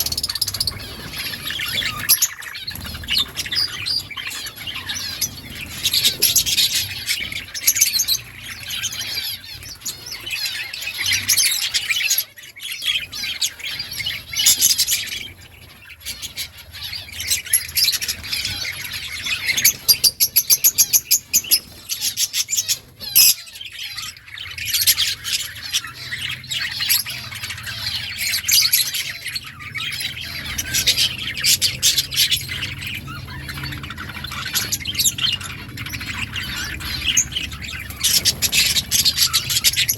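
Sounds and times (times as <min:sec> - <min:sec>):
budgerigars chattering and chirping: 0:00.0 - 0:39.9
rapid repeated bird notes: 0:00.0 - 0:39.9.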